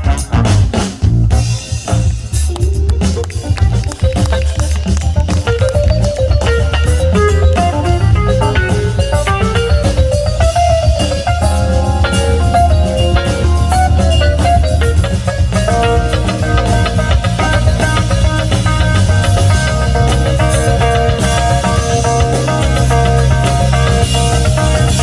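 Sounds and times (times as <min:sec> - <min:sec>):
band playing instrumental: 0:00.0 - 0:25.0
bass line: 0:00.0 - 0:25.0
drum kit beats: 0:00.0 - 0:25.0
bending lead line: 0:01.9 - 0:25.0.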